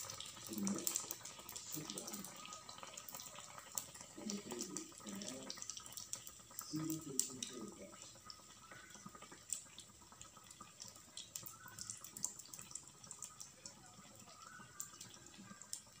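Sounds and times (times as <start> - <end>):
batter sizzling in hot oil: 0.0 - 16.0
oil crackling and popping: 0.0 - 16.0.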